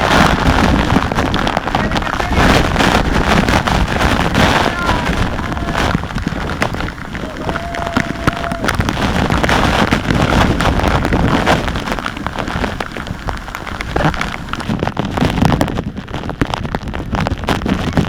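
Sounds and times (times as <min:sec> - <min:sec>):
waterfall rushing and splashing: 0:00.0 - 0:14.8.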